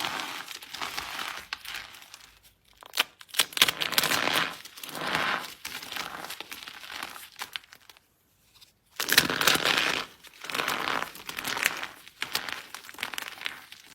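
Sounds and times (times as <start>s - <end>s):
dry soap crunching: 0.0s - 8.1s, 8.9s - 13.9s.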